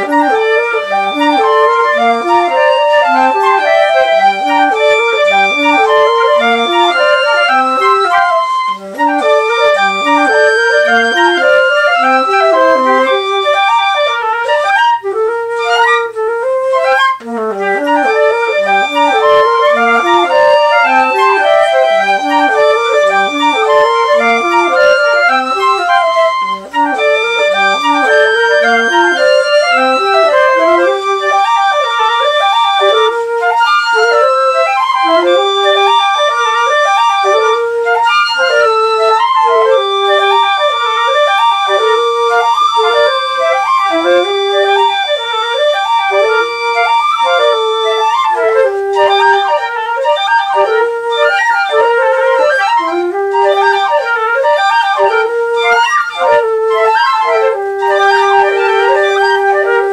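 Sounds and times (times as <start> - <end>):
flutes playing: 0.0 - 59.9.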